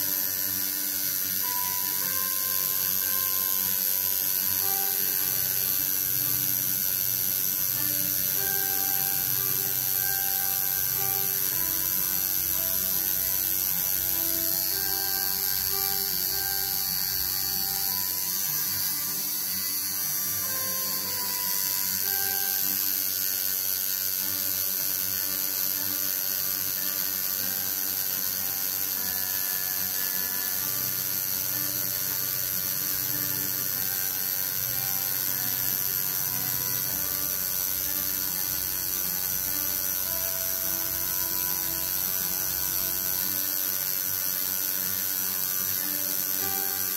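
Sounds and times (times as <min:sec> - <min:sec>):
tattoo machine buzzing: 0:00.0 - 0:46.9.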